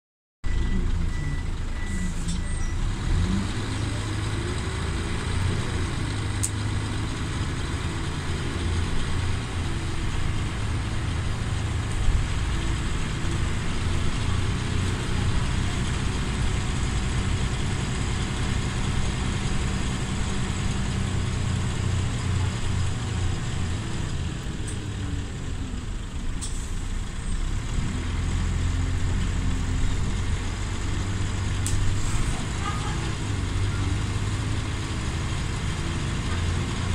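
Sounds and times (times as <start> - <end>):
bus diesel engine running: 0.4 - 36.9
road and cabin hum: 0.5 - 36.9.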